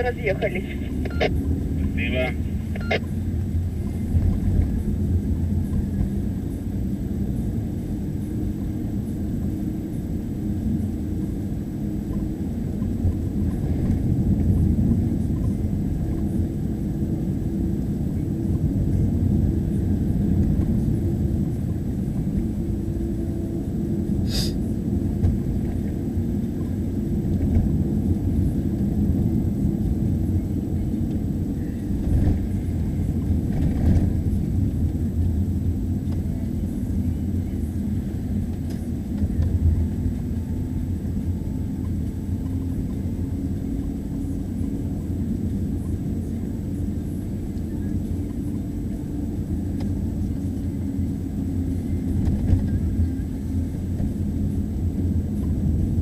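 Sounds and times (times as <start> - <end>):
car driving rumble from cabin: 0.0 - 56.0.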